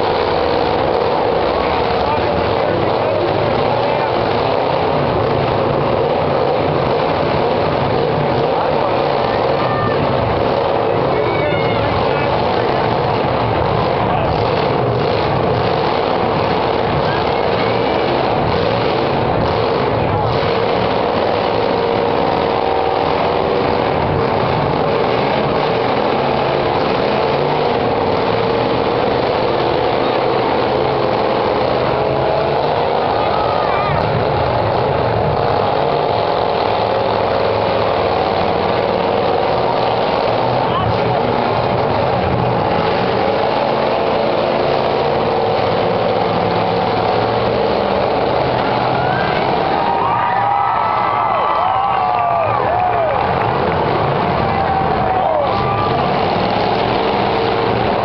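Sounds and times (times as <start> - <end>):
unmuffled car engines running hard: 0.0 - 58.0.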